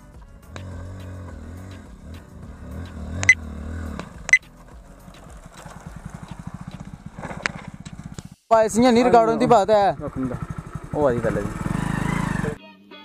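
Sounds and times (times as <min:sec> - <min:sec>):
motorcycle engine running: 0:00.2 - 0:12.6.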